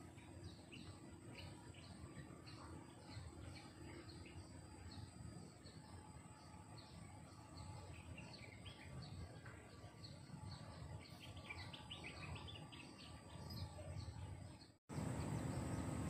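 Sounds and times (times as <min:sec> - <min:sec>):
birds chirping: 0:00.0 - 0:16.0
high insect drone: 0:00.1 - 0:16.0.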